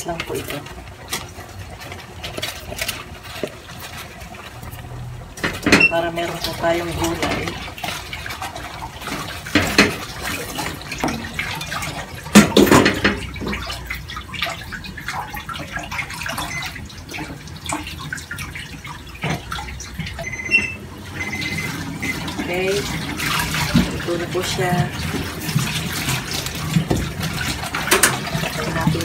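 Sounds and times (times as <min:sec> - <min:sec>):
water boiling in a pot: 0:00.0 - 0:29.0.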